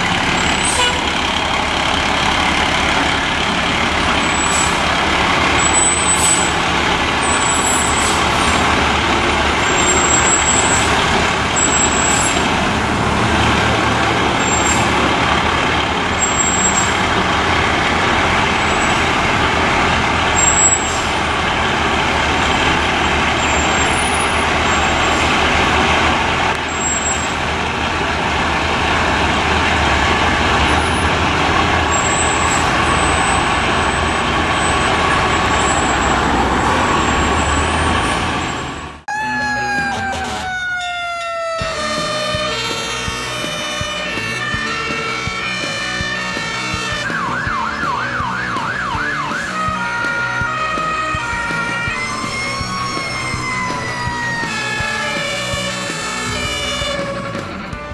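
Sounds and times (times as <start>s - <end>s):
diesel engine running low speed: 0.0s - 57.9s.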